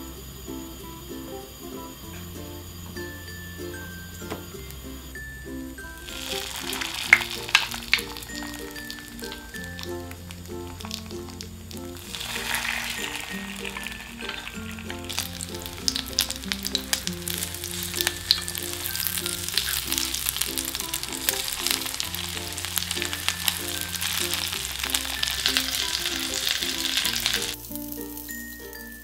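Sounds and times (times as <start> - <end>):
pancakes sizzling in oil: 0.0 - 29.0.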